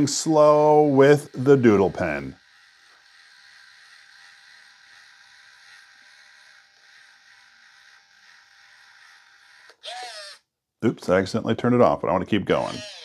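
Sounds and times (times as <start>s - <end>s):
small motor whirring faintly: 0.0s - 10.5s, 11.8s - 13.0s.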